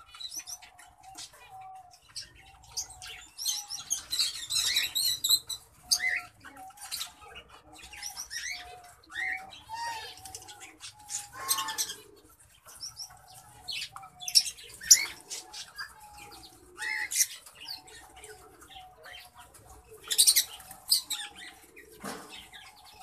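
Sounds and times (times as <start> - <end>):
cockatiels chirping and whistling: 0.1 - 19.3.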